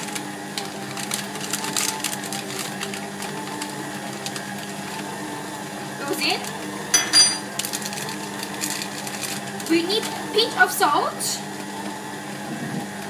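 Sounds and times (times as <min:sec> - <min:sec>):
stand mixer beating dough: 0:00.0 - 0:13.0.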